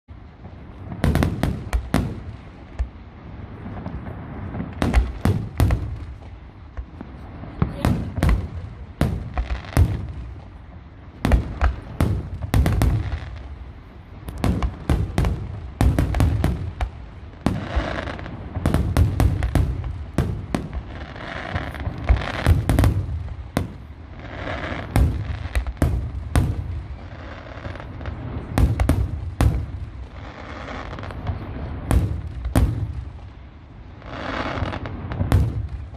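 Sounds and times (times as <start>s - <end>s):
fireworks bangs: 0.1s - 35.9s
fireworks crackle: 0.1s - 35.9s.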